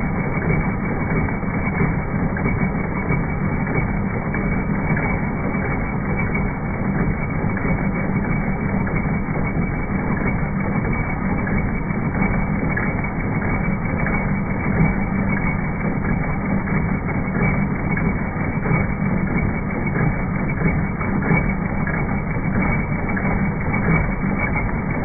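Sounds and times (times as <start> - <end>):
low mechanical rumble: 0.0 - 25.0.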